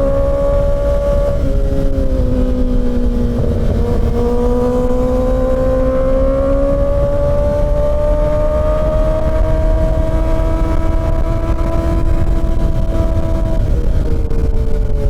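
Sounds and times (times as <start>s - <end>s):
motorcycle engine accelerating: 0.0s - 15.0s
wind rush: 0.0s - 15.0s.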